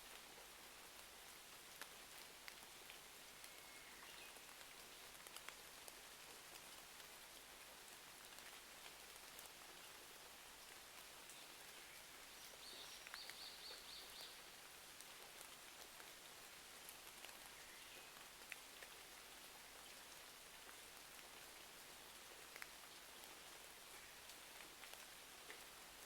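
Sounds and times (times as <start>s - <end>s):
rain hiss: 0.0s - 26.0s.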